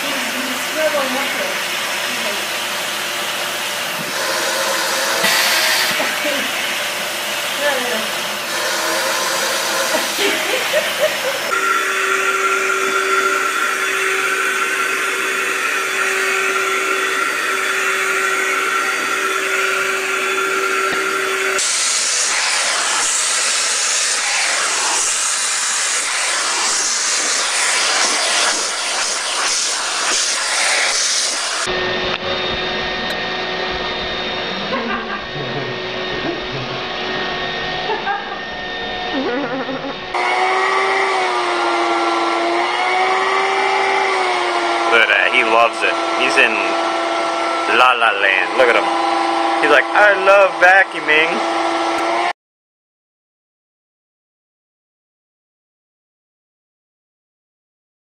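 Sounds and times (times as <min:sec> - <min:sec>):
vacuum cleaner running: 0:00.0 - 0:52.4.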